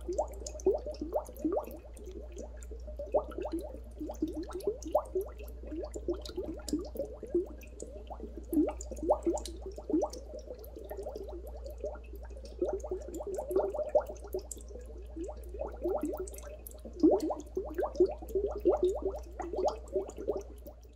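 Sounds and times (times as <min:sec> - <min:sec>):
dry ice bubbling in water: 0:00.0 - 0:20.9.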